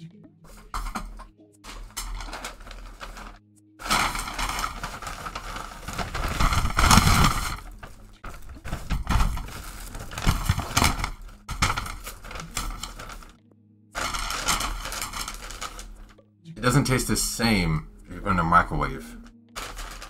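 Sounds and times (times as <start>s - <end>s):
wrapper rustling and crinkling: 0.5s - 13.4s, 14.0s - 17.4s, 18.1s - 20.0s.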